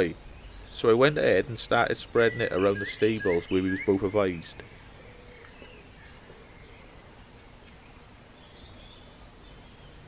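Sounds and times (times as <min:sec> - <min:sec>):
birds chirping: 0:00.0 - 0:10.0
low outdoor background noise: 0:00.0 - 0:10.0.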